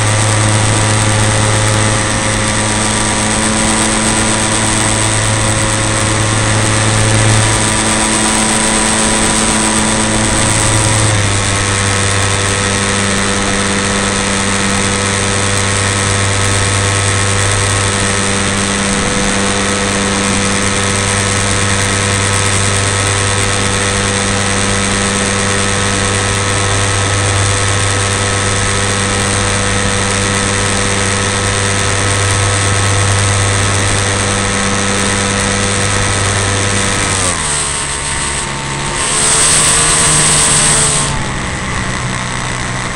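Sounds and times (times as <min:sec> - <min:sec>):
model plane engine running: 0:00.0 - 0:42.9.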